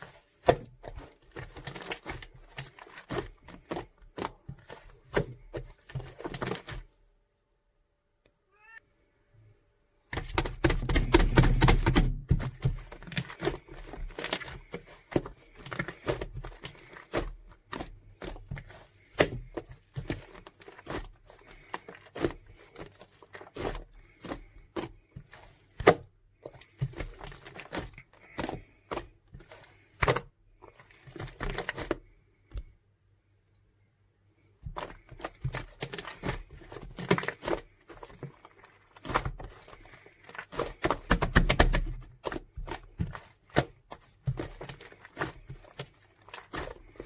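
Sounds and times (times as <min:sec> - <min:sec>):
crackling and crinkling handling noises: 0:00.0 - 0:07.5, 0:10.0 - 0:32.8, 0:34.4 - 0:47.0.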